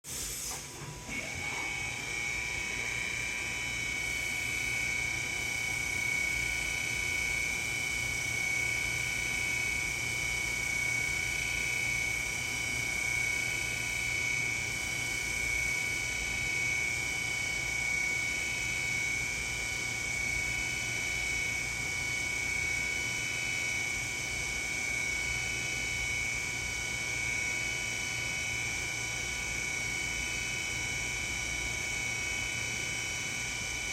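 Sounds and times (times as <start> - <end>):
drilling machine motor whine: 0.2 - 33.9.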